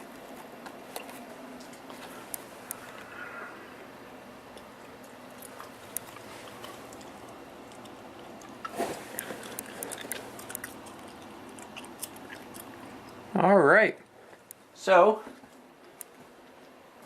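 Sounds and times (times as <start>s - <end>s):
computer fans whirring: 0.0s - 17.0s.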